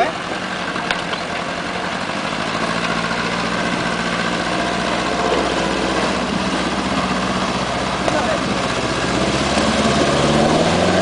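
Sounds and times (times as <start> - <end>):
engine running at low revs: 0.0 - 11.0
river water rushing: 0.0 - 11.0
wheels splashing: 0.0 - 11.0.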